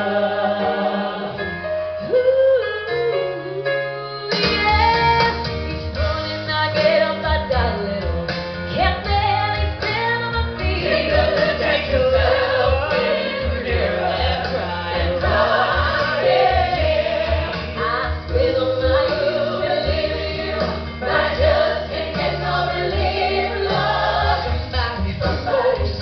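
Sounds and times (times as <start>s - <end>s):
live rock band with singers: 0.0s - 26.0s.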